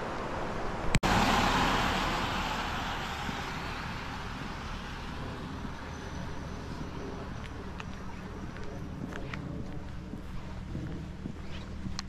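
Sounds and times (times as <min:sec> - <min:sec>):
low outdoor rumble: 0:00.0 - 0:12.0
road vehicle passing: 0:00.0 - 0:12.0.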